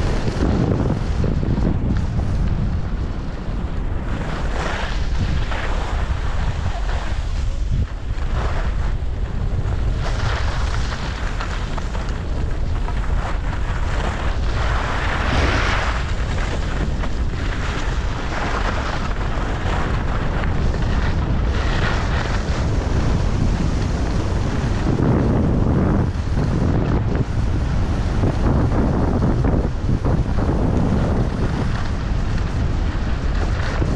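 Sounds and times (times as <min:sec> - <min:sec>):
skis scraping over hard snow: 0:00.0 - 0:33.9
wind buffeting microphone: 0:00.0 - 0:33.9.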